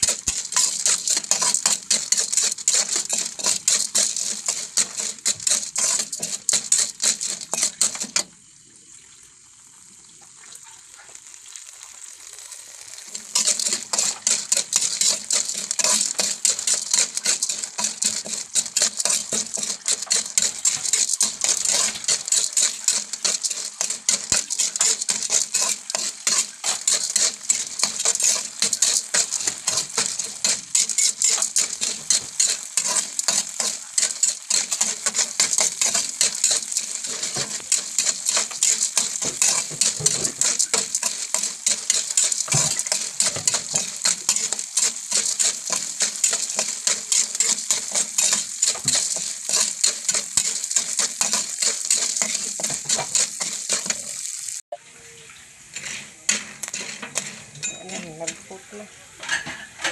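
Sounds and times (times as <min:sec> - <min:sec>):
kernels rattling in a pan: 0:00.0 - 0:08.5, 0:10.8 - 0:54.7, 0:55.6 - 0:59.9.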